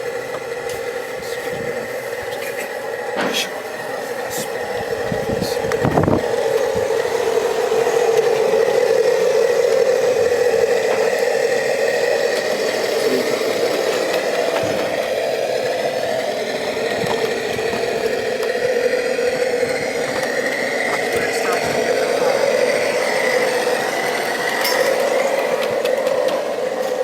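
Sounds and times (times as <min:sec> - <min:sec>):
model locomotive engine drone: 0:00.0 - 0:27.0.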